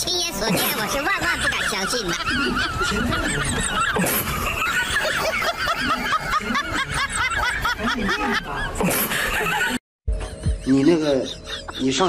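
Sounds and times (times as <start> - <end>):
high-pitched snickering laughter: 0.4 - 10.4.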